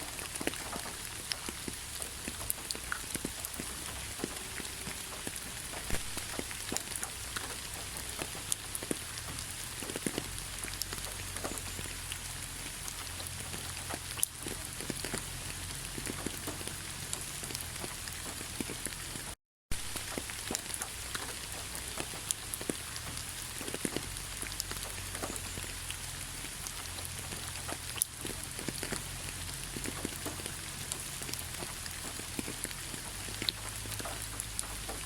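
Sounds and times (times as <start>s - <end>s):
heavy rain hissing: 0.0s - 35.0s
raindrops tapping close by: 0.0s - 35.0s.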